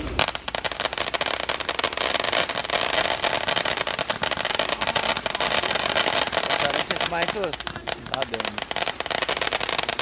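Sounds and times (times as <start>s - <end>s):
fireworks crackling: 0.0s - 10.0s.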